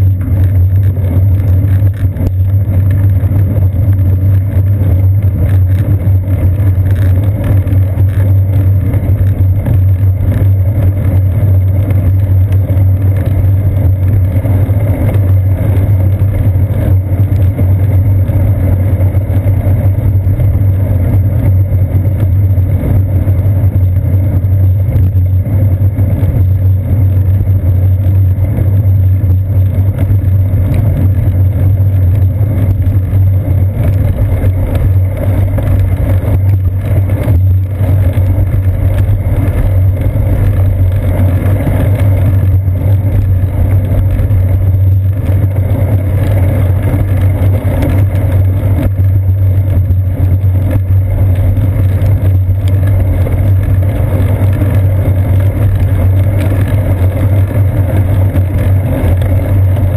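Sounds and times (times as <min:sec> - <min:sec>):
bicycle ride vibration rumble: 0:00.0 - 0:59.9
wind: 0:00.0 - 0:59.9.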